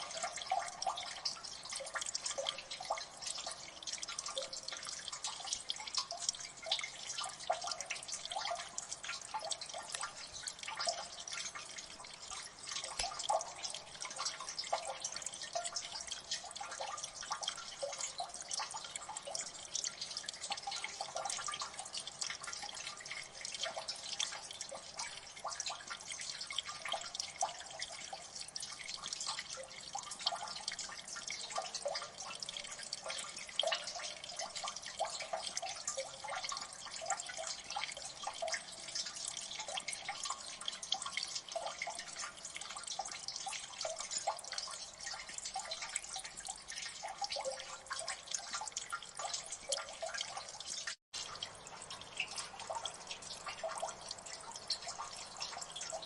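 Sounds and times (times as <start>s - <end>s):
water dripping: 0.0s - 56.0s.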